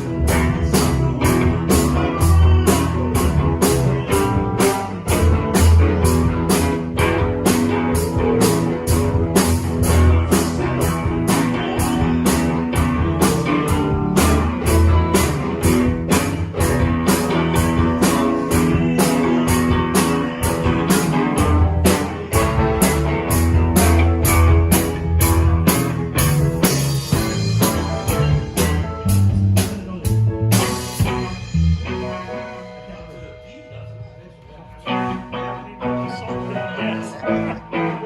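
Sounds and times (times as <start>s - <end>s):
rock band playing: 0.0s - 38.0s.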